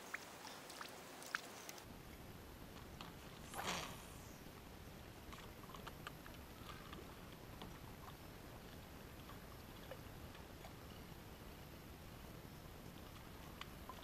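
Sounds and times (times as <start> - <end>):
soft ticks and drips: 0.0 - 3.5, 4.4 - 14.0.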